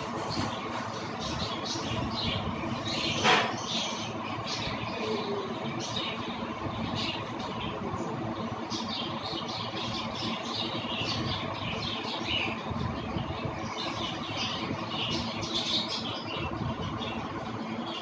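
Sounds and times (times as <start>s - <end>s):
small birds chirping and squawking: 0.0s - 18.0s.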